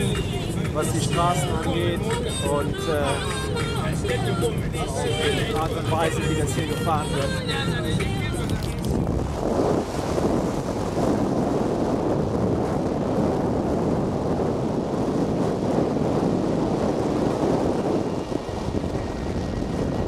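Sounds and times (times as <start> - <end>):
car driving on dirt road: 0.0 - 20.0
wind on microphone: 0.0 - 20.0.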